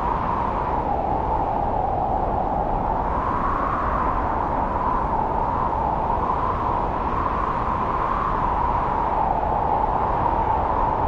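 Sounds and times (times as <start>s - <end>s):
strong wind through trees: 0.0s - 11.0s.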